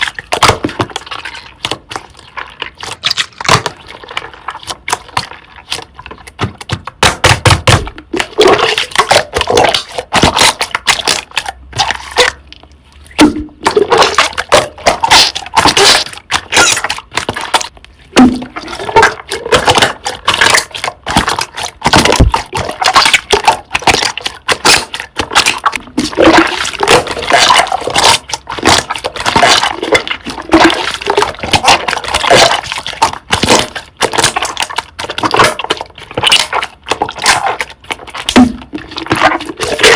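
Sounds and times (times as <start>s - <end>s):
hands squishing wet slime: 0.0s - 39.9s.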